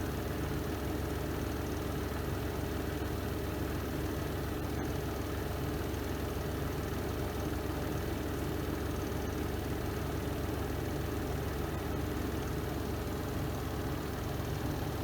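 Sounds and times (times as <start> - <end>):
washing machine spin cycle hum: 0.0 - 15.0.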